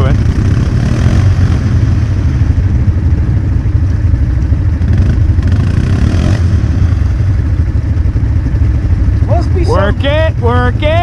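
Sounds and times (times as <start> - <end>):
atv engine rumbling: 0.0 - 11.0.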